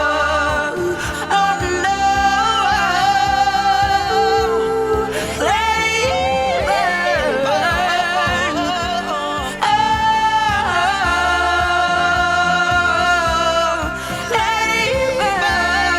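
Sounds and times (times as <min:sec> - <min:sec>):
high voice singing with vibrato: 0:00.0 - 0:15.9
pop ballad backing track: 0:00.0 - 0:15.9.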